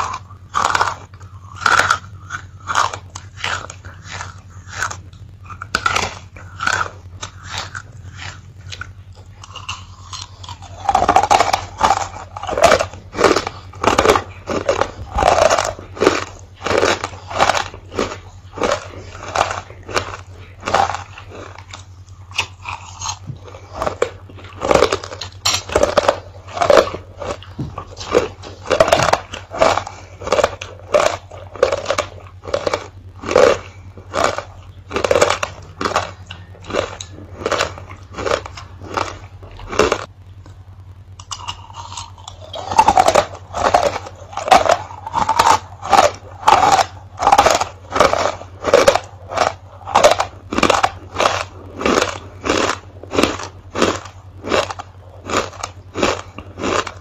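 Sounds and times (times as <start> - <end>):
crunching hard lozenges: 0.0 - 57.0.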